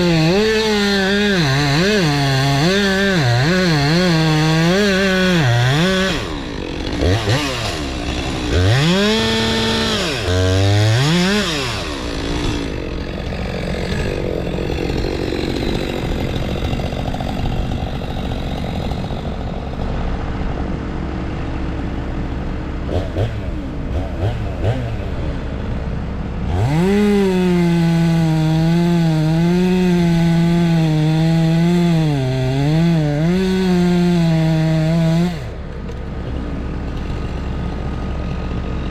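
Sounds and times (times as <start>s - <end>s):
chainsaw revving: 0.0s - 20.3s, 22.8s - 25.7s, 26.3s - 38.9s.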